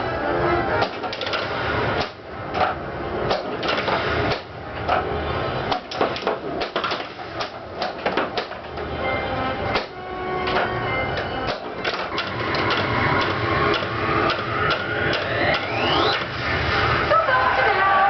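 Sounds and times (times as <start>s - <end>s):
pinball game music: 0.0s - 17.1s
pinball flippers and ball clacking: 0.7s - 9.0s, 9.6s - 16.4s.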